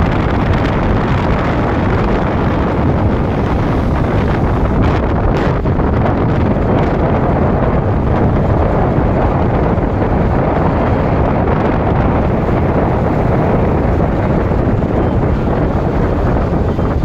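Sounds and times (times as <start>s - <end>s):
vehicle travel rumble: 0.0s - 17.0s
wind buffeting microphone: 0.0s - 17.0s.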